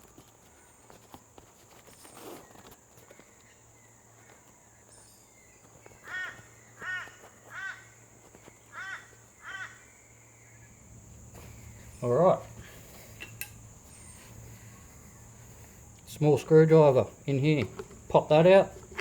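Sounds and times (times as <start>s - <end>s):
bird calling: 2.0s - 19.0s
faint steady hum: 3.3s - 19.0s.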